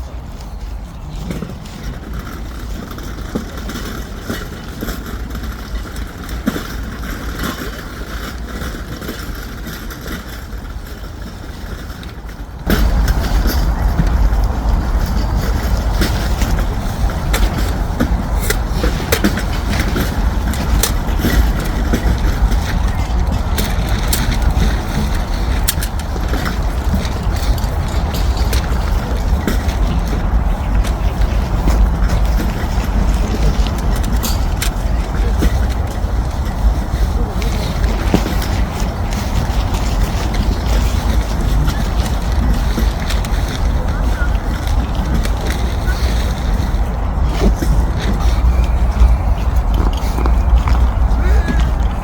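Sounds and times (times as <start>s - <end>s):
vehicle engine and road rumble: 0.0s - 52.0s.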